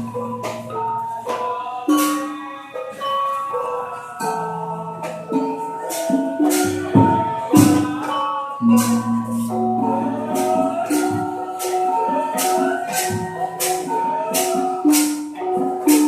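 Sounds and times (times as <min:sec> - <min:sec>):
gamelan music: 0:00.0 - 0:16.0
jangling percussion strokes: 0:00.0 - 0:16.0.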